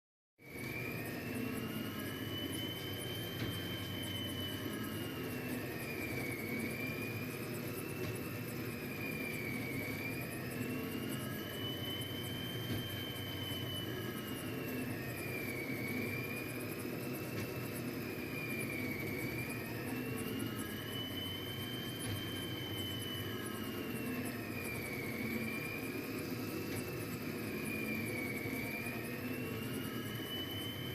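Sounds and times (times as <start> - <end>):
stepper motors whining: 0.4 - 30.9
whirring hum: 0.4 - 30.9.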